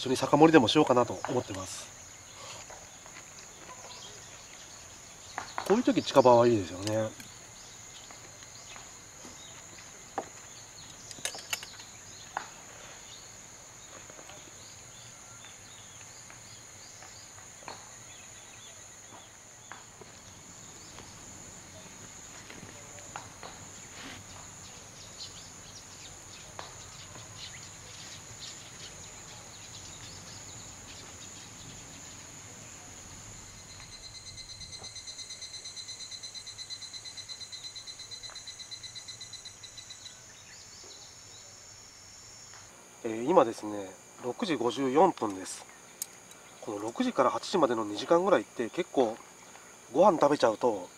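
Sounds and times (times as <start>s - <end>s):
insects chirping: 0.0s - 50.9s.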